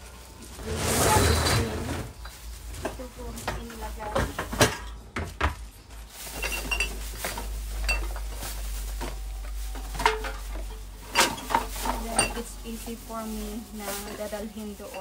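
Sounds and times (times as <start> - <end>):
cans and bottles clinking in bags: 0.0 - 15.0.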